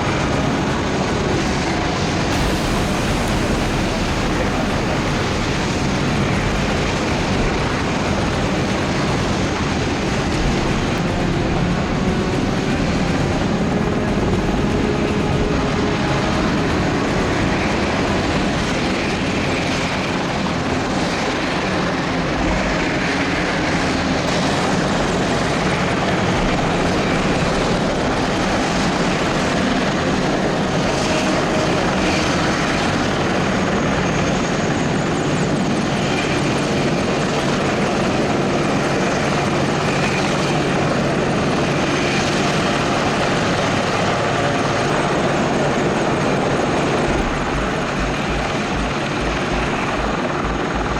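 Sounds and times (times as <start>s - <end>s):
helicopters flying: 0.0s - 50.9s.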